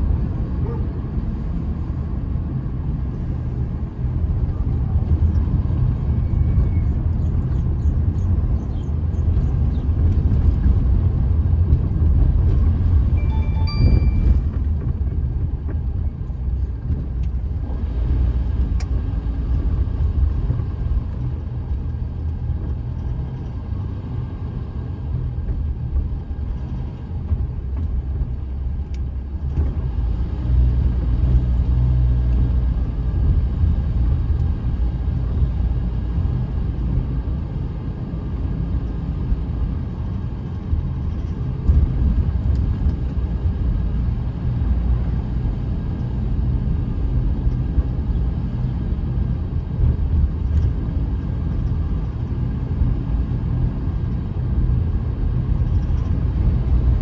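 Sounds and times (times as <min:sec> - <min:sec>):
car engine rumble: 0:00.0 - 0:57.0
tyres on road: 0:00.0 - 0:57.0.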